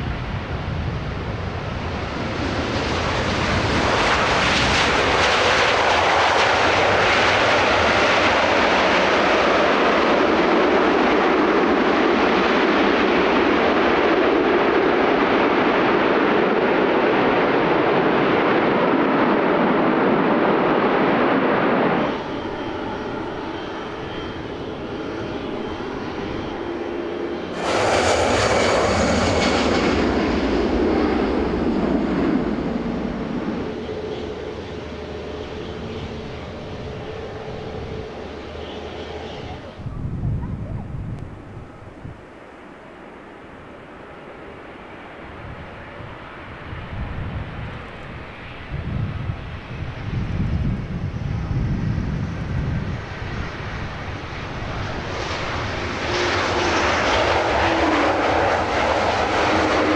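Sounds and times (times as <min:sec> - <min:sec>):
high engine whine: 0:00.0 - 0:59.9
jet engines running: 0:00.0 - 0:59.9.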